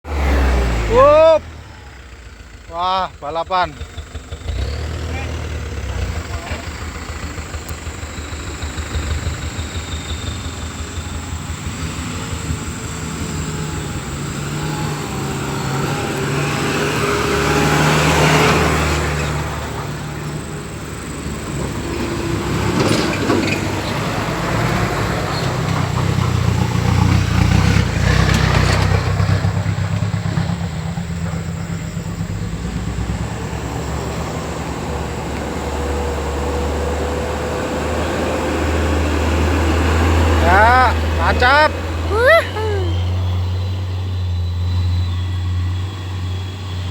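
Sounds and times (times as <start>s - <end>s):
construction machinery engines humming: 0.1s - 46.9s.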